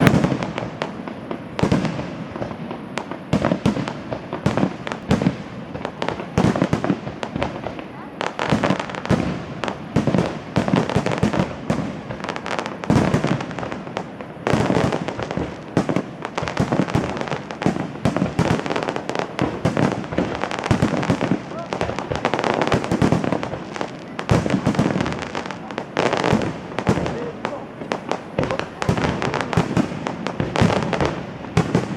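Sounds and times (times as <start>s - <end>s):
fireworks bursting and crackling: 0.0s - 31.9s.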